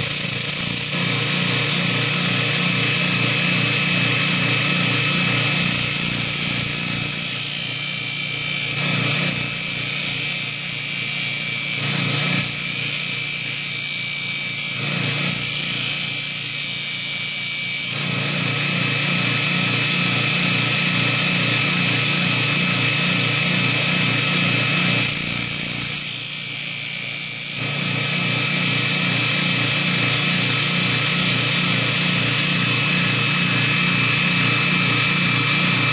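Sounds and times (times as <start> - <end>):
bench grinder motor hum: 0.0 - 35.9
steel grinding on belt: 0.0 - 35.9.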